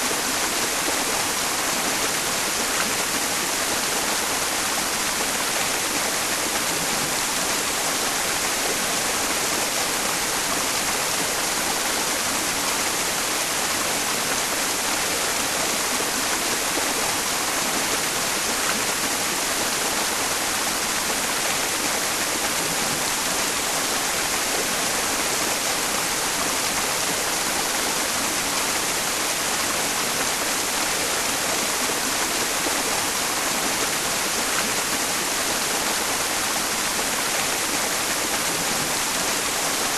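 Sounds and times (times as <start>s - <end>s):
stream running: 0.0s - 39.9s
white noise hiss: 0.0s - 39.9s.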